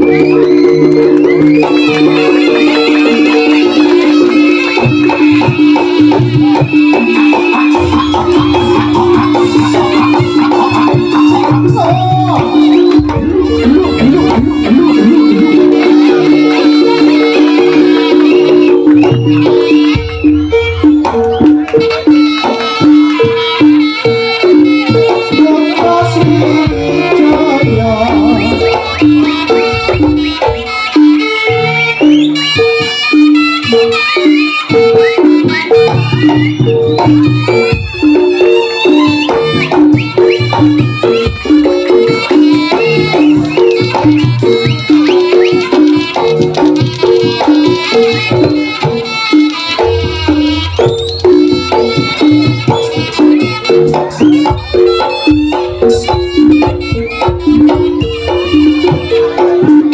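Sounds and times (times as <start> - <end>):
hand drums beating: 0.0 - 59.9
sliding melody line: 0.0 - 59.9.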